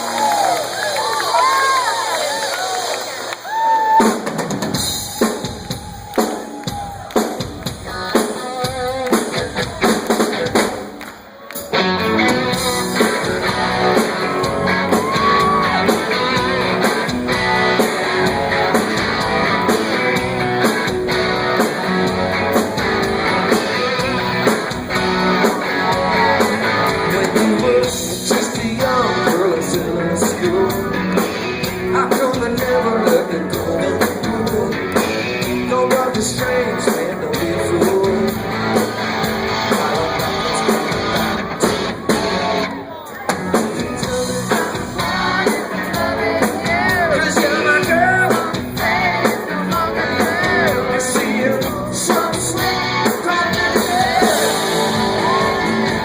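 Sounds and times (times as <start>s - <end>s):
rock band playing: 0.0s - 56.0s
drum beat: 3.9s - 11.0s, 12.2s - 42.6s, 43.2s - 56.0s.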